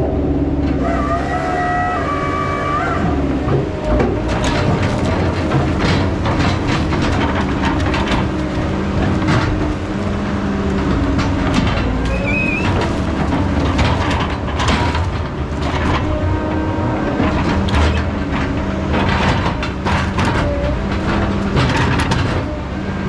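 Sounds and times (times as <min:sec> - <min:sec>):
heavy diesel machinery running: 0:00.0 - 0:23.0
metallic clanks and knocks: 0:03.1 - 0:22.8.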